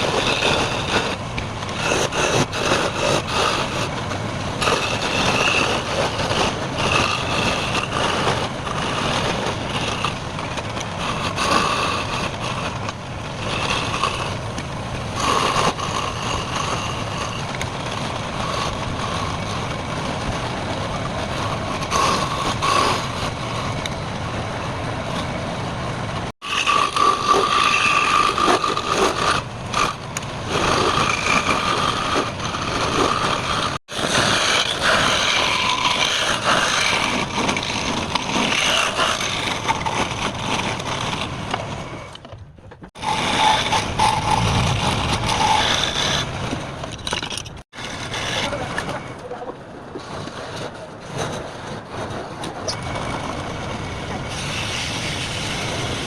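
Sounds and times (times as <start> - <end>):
wood lathe motor whining: 0.0 - 25.5, 26.2 - 42.2, 43.0 - 49.0
turning tool cutting wood: 0.0 - 25.6, 26.2 - 42.3, 42.9 - 49.3, 52.7 - 56.0.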